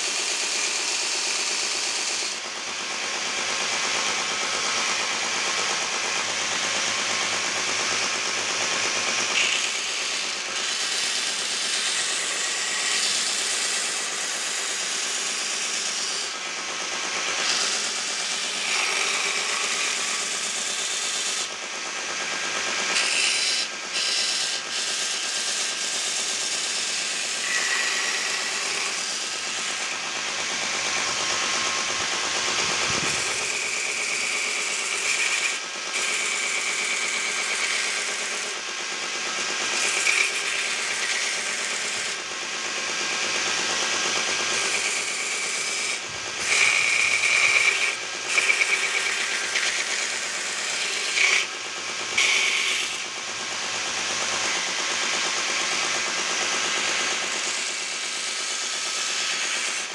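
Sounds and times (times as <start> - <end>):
belt grinder sanding wood: 0.0 - 59.9.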